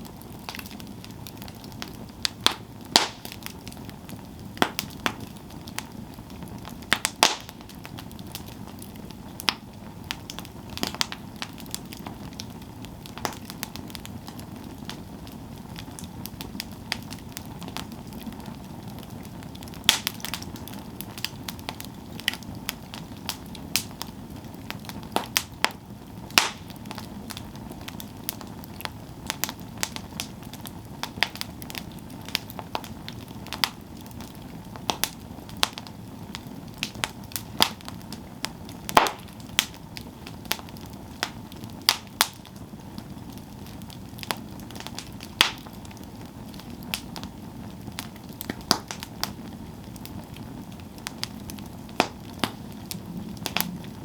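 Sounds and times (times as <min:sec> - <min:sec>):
campfire flame hissing: 0:00.0 - 0:54.0
wood crackling and popping: 0:00.0 - 0:54.0.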